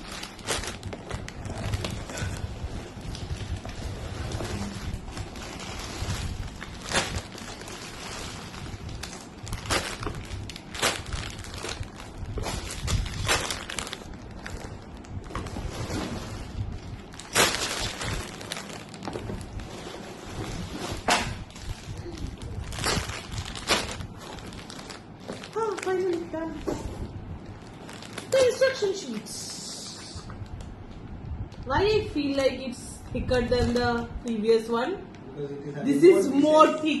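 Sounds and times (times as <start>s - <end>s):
plastic bags crackling: 0.0s - 30.8s.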